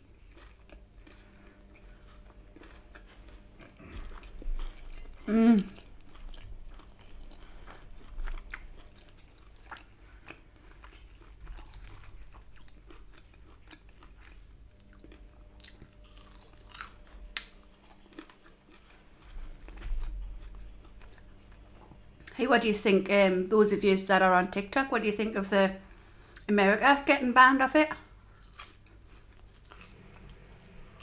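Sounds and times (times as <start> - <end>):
person chewing crunchy food: 0.0 - 22.4, 28.0 - 31.0.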